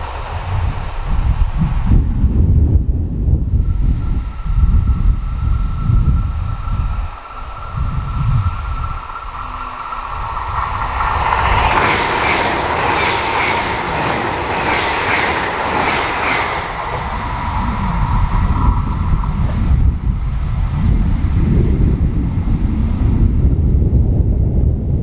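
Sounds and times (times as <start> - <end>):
steady train whine: 0.0 - 25.0
train wheel and rail noise: 0.0 - 25.0.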